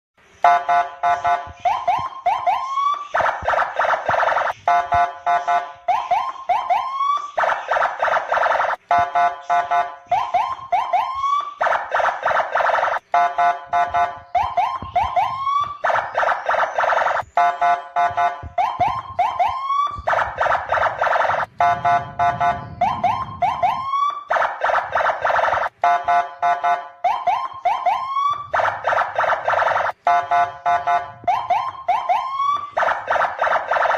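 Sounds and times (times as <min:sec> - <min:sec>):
police electronic siren: 0:00.4 - 0:33.9.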